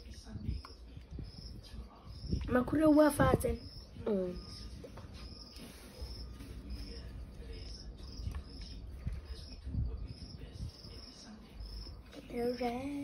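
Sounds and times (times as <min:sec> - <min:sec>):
cricket chirping: 0:00.2 - 0:02.5, 0:03.4 - 0:12.7.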